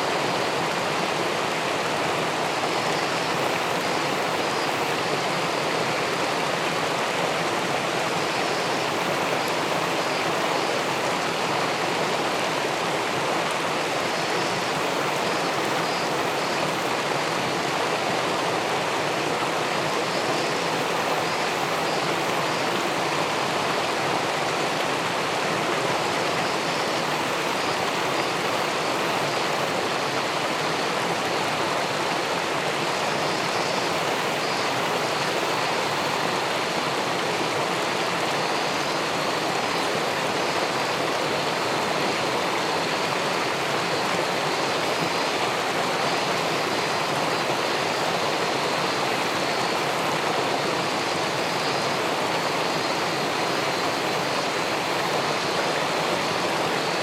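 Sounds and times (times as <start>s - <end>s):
river water rushing over a weir: 0.0s - 57.0s.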